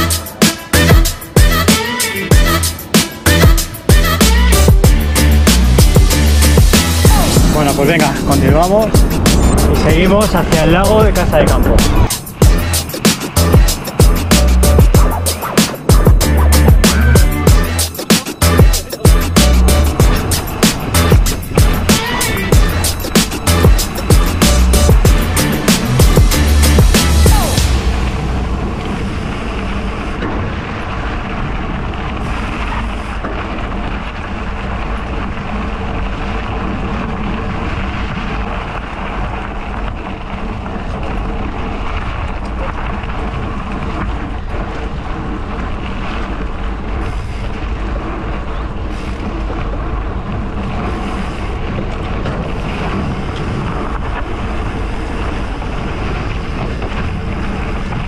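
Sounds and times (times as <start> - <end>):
low rumble: 2.3 - 58.0
wind rushing over microphone: 4.7 - 58.0.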